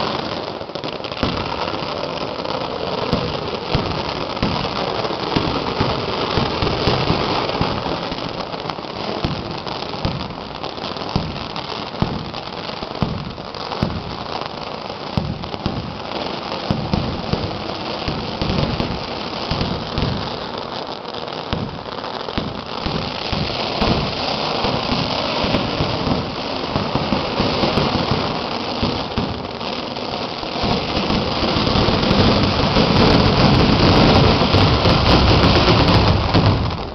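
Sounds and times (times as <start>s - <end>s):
fireworks crackling pops: 0.0s - 36.9s.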